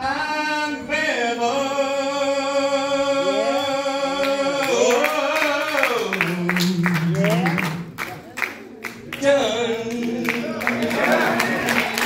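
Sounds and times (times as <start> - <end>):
man singing gospel: 0.0 - 8.0, 9.1 - 12.0.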